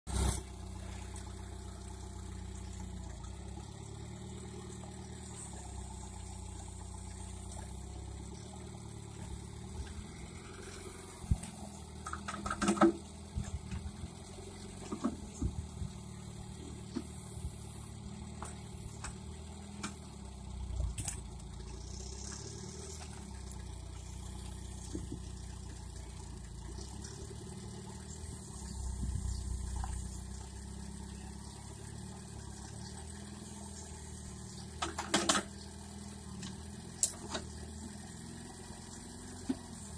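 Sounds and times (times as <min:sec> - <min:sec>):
tractor engine running: 0:00.1 - 0:39.9.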